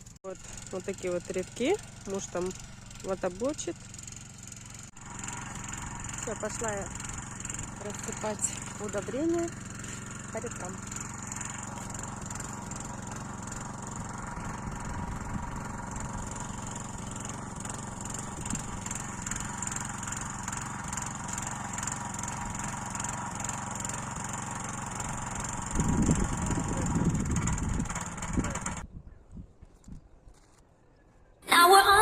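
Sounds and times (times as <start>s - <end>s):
small engine running: 0.0s - 28.9s.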